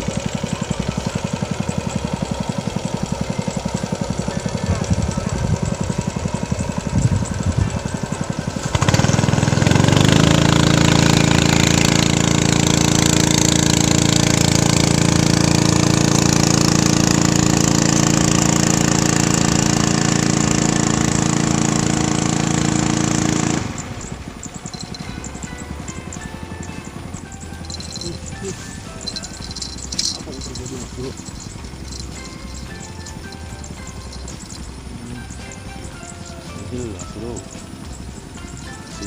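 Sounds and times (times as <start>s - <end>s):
loud engine running: 0.0s - 39.0s.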